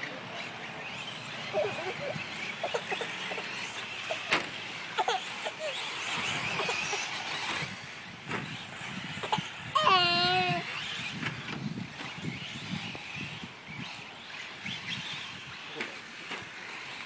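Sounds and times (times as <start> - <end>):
electric rc truck motors whining: 0.0 - 17.0.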